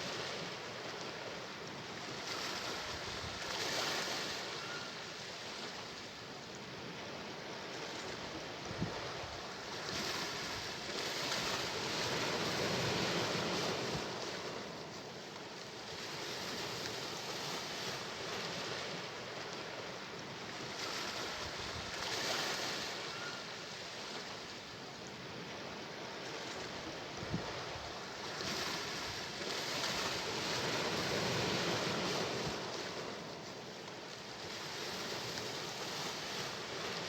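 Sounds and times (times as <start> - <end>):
sea waves washing ashore: 0.0 - 37.0.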